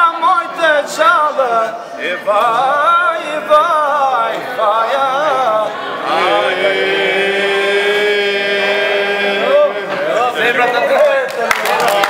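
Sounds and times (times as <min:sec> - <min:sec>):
men singing polyphonic song: 0:00.0 - 0:10.4.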